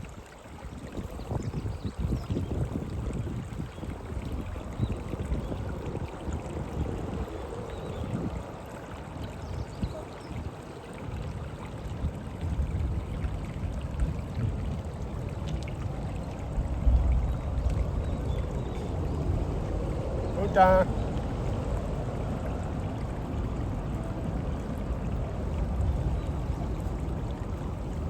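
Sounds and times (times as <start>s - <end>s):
river water flowing over stones: 0.0s - 28.0s
wind rumble on microphone: 0.0s - 28.0s.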